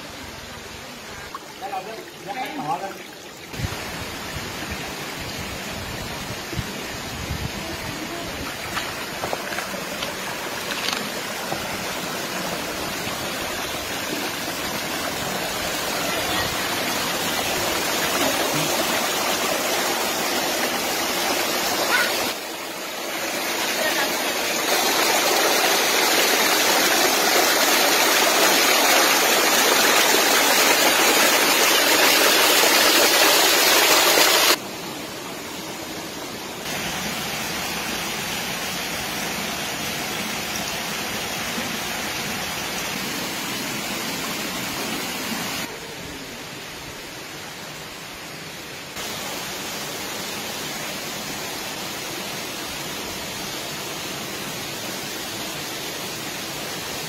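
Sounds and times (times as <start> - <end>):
stream rushing over boulders: 0.0 - 57.0.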